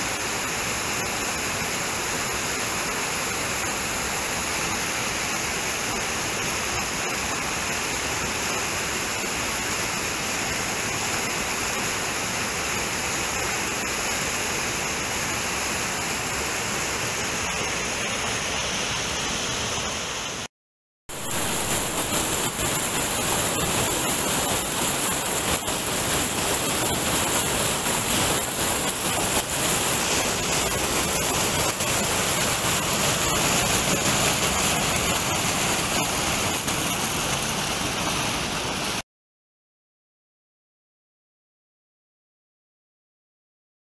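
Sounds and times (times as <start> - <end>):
stream rushing over boulders: 0.0 - 20.5, 21.1 - 39.0.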